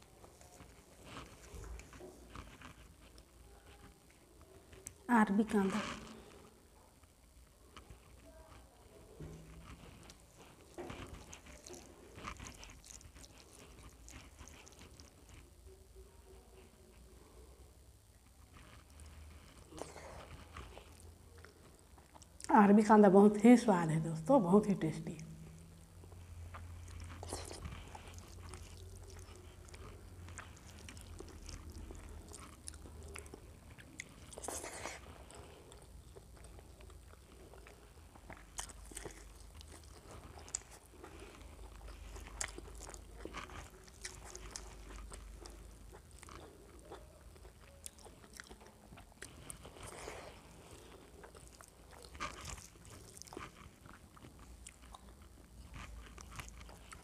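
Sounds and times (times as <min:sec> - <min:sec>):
person chewing food: 0:00.0 - 0:05.1, 0:05.8 - 0:15.7, 0:17.0 - 0:22.5, 0:25.3 - 0:57.0
low steady hum: 0:00.0 - 0:57.0.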